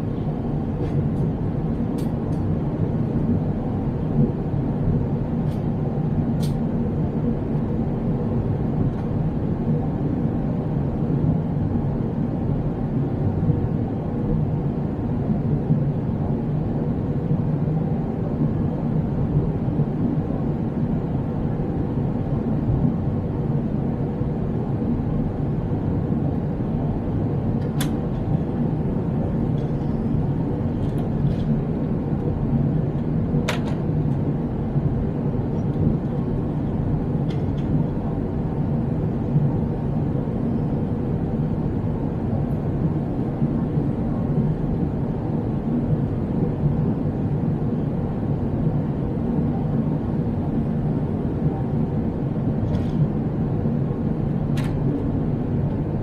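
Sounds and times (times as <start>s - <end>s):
faint steady hum: 0.0s - 56.0s
jet engine and airflow rush: 0.0s - 56.0s.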